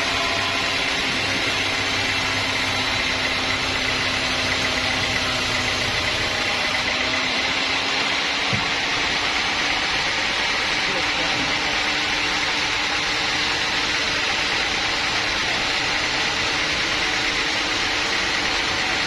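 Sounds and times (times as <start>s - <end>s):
sawmill machinery humming: 0.0s - 19.0s.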